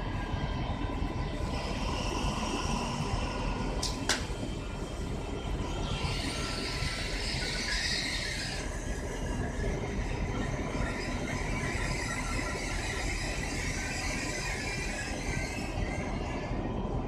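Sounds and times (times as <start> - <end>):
diesel locomotive engine rumble: 0.0 - 17.0
wheels squealing on rails: 1.2 - 17.0.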